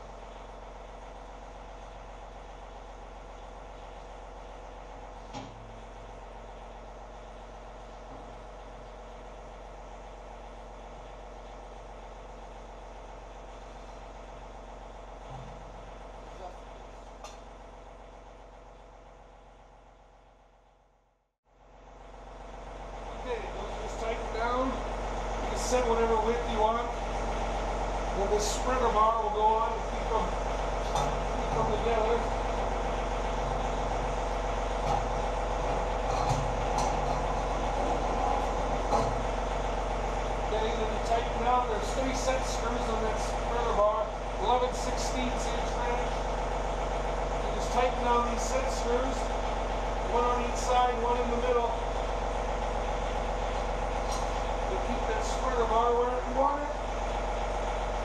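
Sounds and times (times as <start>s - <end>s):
tractor engine idling: 0.0s - 20.7s, 21.5s - 58.0s.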